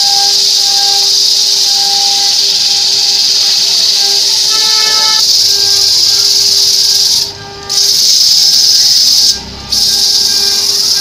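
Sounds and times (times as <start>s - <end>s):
lathe motor hum: 0.0s - 11.0s.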